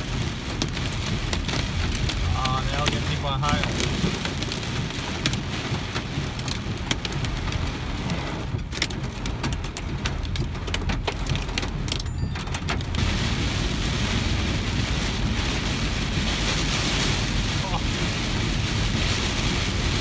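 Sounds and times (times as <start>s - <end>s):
car driving rumble: 0.0s - 20.0s
heavy rain on a car roof: 0.0s - 20.0s.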